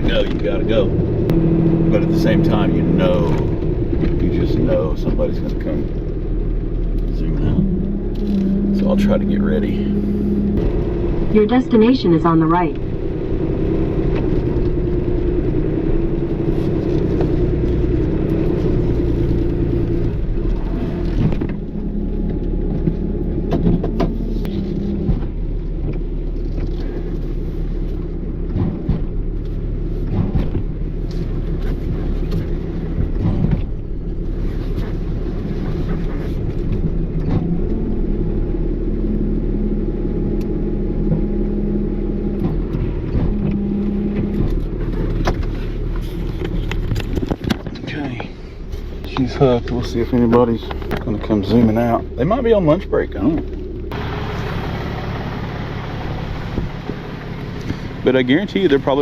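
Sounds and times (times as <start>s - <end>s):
tow truck engine running: 0.0s - 59.0s.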